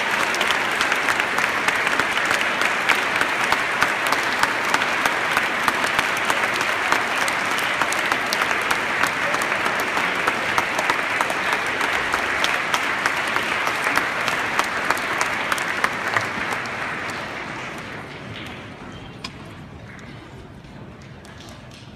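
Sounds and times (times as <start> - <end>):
audience applauding: 0.0 - 20.3.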